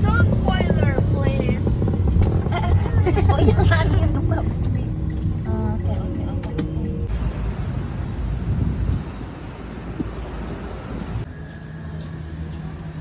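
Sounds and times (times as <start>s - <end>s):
wind buffeting microphone: 0.0s - 11.3s
road rumble: 0.0s - 13.0s
steady engine hum: 0.0s - 13.0s.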